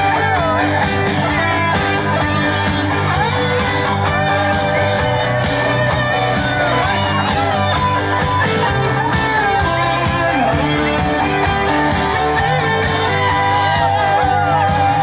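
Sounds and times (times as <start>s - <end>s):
electric guitar bending notes: 0.0s - 15.0s
live band over pa system: 0.0s - 15.0s.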